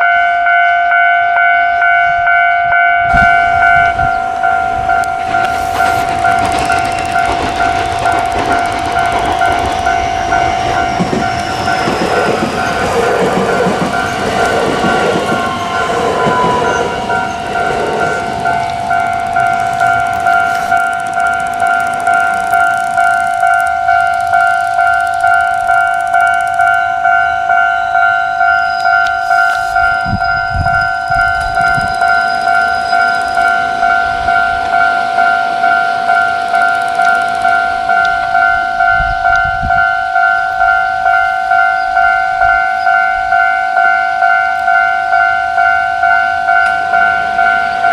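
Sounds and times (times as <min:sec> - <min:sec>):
level crossing warning bell: 0:00.0 - 0:47.9
train passing: 0:00.0 - 0:47.9.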